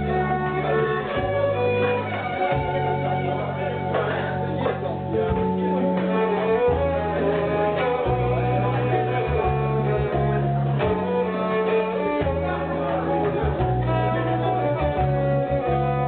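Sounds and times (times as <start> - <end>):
guitar accompaniment: 0.0 - 16.0
low bass notes: 0.0 - 16.0
violin melody: 0.0 - 16.0.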